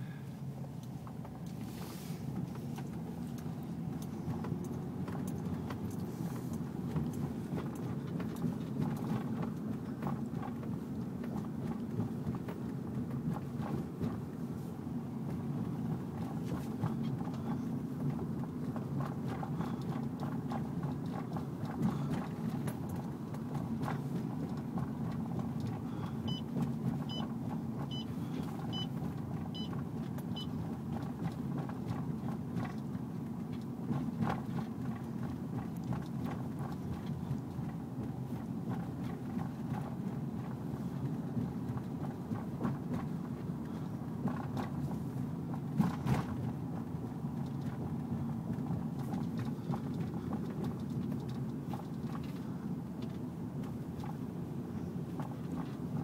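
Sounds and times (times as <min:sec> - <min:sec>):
vehicle rumbling on the move: 0:00.0 - 0:56.0.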